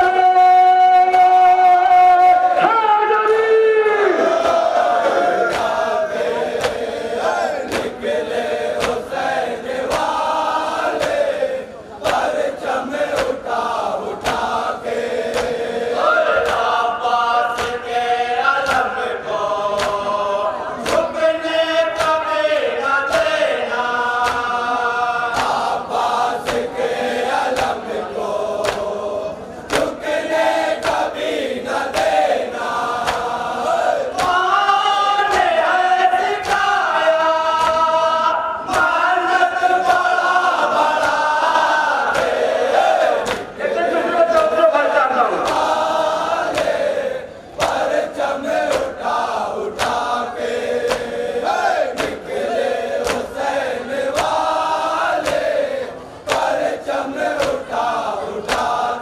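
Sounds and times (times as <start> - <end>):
men chanting in unison: 0.0 - 59.0
person reciting into a microphone: 0.0 - 59.0.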